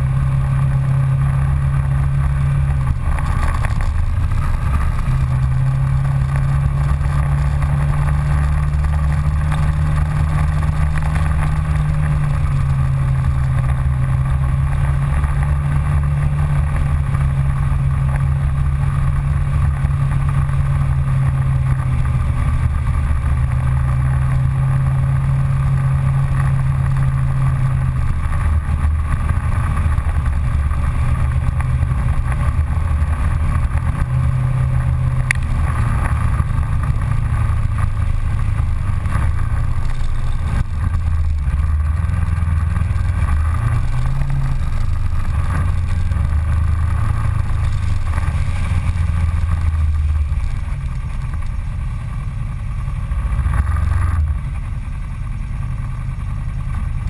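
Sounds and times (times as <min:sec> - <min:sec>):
utility vehicle engine droning: 0:00.0 - 0:57.0.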